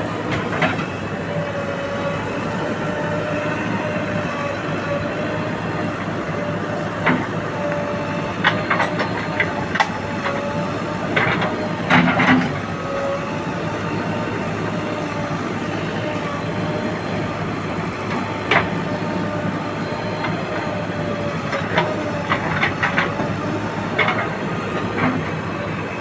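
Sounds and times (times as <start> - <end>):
machine engine drone: 0.0 - 26.0.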